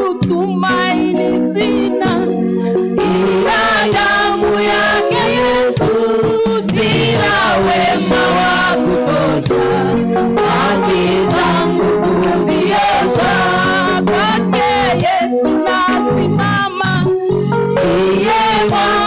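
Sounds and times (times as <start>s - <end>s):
keyboard and bass accompaniment: 0.0s - 19.0s
congregation singing gospel song: 0.7s - 19.0s.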